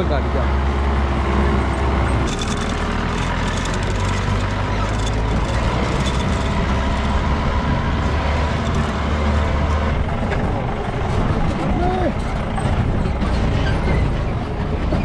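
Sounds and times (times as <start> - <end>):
off-road vehicle engine running: 0.0 - 15.0
vehicle body rattling over rocks: 2.1 - 15.0.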